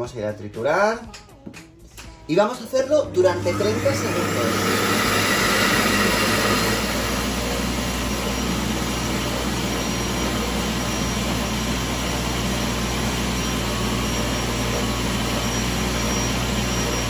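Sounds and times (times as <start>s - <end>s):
food processor blades chopping: 3.1s - 17.0s.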